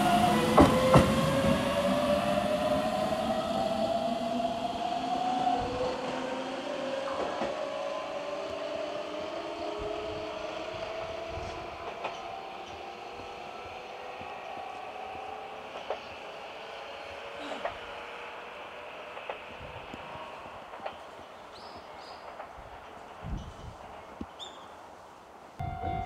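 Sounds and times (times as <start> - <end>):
electric train whine: 0.0 - 24.6, 25.6 - 26.0
train rumble: 0.0 - 25.0, 25.6 - 26.0.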